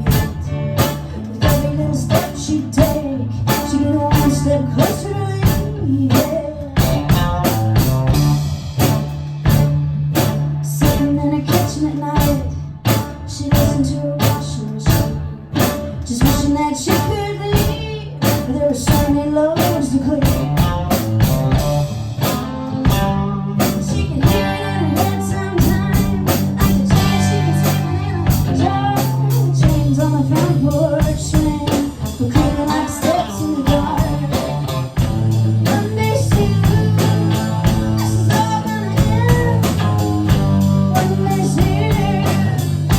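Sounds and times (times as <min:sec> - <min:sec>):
live band playing: 0:00.0 - 0:42.9
sustained bass line: 0:00.0 - 0:42.9.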